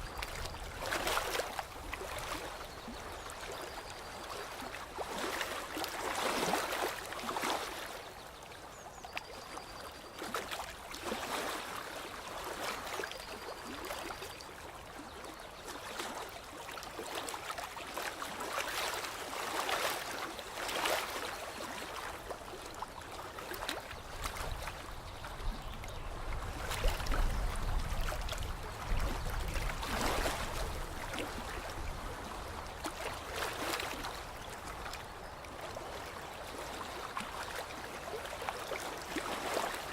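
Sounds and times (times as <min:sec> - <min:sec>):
lake water lapping: 0:00.0 - 0:08.5, 0:09.1 - 0:39.9.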